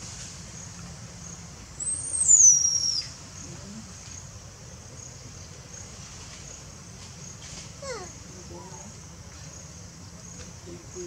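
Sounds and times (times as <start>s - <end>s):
insects chirring: 0.1s - 11.0s.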